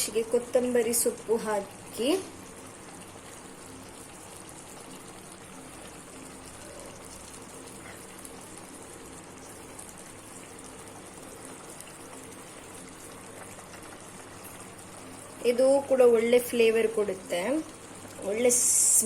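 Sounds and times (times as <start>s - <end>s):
gravy bubbling and sizzling in pan: 0.0s - 19.0s.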